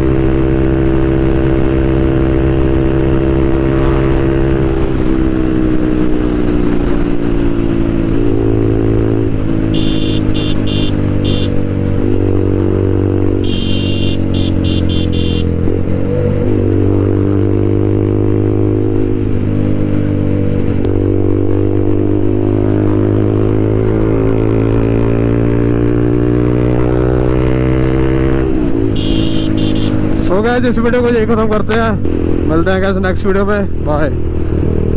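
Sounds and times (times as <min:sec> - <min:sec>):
motorcycle engine while riding: 0:00.0 - 0:34.9.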